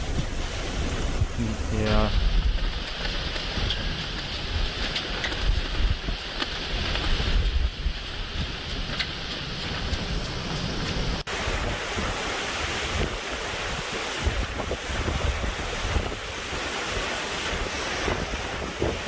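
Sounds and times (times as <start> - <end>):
hurricane winds buffeting microphone: 0.0 - 19.0.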